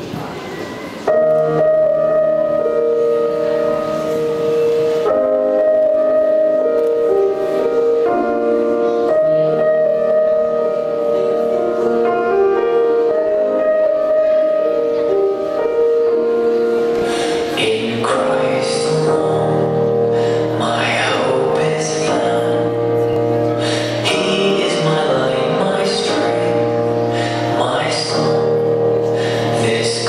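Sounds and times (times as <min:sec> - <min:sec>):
slow gentle instrumental music: 0:00.1 - 0:30.0.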